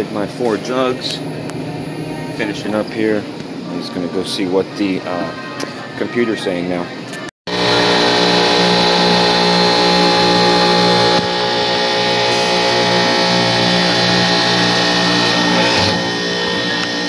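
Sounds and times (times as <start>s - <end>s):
compressors humming: 0.0s - 17.0s.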